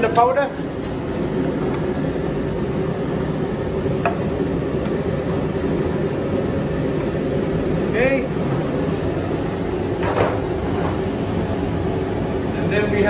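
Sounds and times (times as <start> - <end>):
extraction hood fan drone: 0.0 - 13.0.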